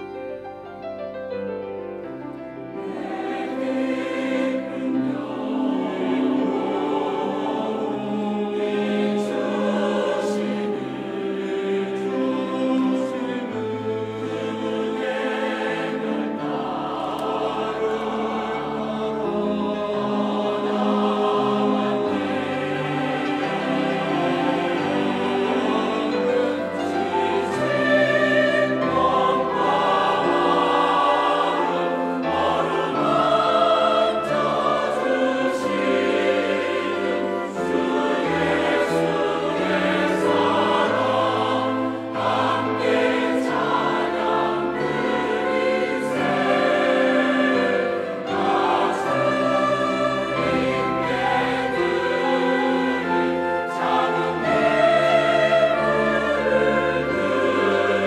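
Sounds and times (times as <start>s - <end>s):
mixed choir singing a hymn: 2.6s - 58.0s.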